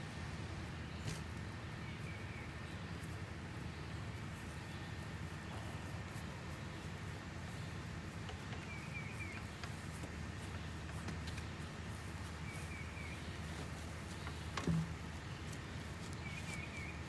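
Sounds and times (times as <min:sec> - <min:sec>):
low steady rumble: 0:00.0 - 0:17.0
small bird chirping: 0:00.8 - 0:17.0.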